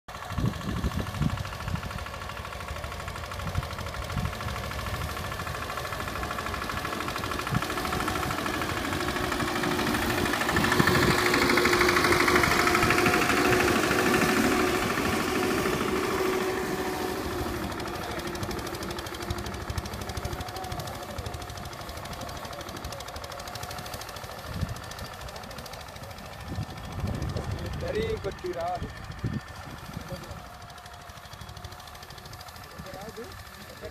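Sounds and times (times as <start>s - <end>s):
mini tractor engine running: 0.1s - 33.9s.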